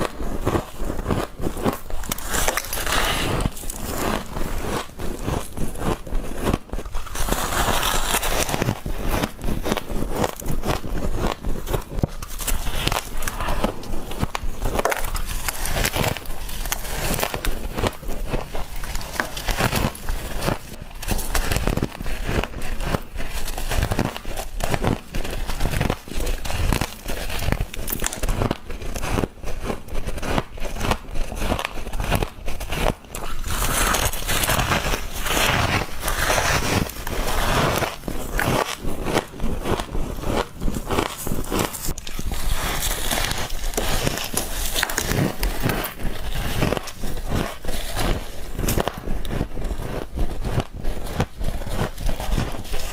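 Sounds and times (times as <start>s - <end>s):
chewing crunchy frost: 0.0s - 52.9s.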